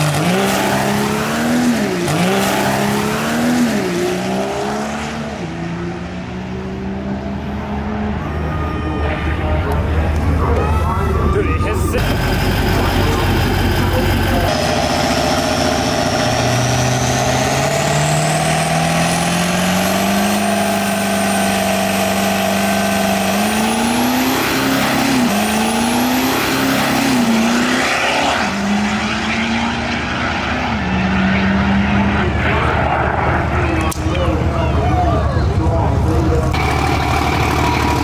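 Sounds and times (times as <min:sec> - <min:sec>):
diesel truck accelerating hard: 0:00.0 - 0:08.5, 0:11.1 - 0:38.0.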